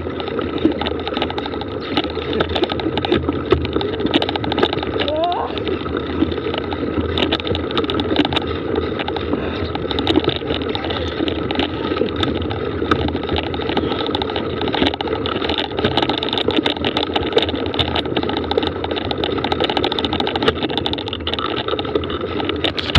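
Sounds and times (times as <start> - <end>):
bike clicking and rattling: 0.0 - 22.9
tyres on loose dirt: 0.0 - 22.9.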